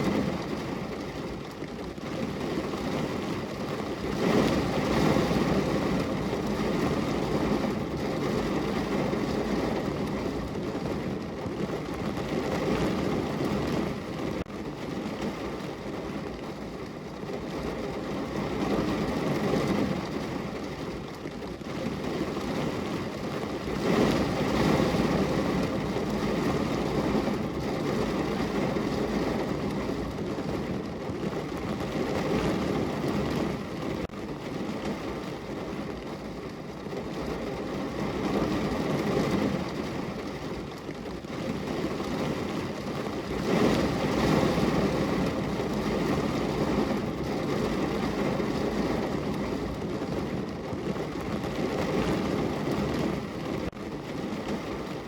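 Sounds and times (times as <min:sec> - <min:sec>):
heavy rain drumming on car: 0:00.0 - 0:55.0.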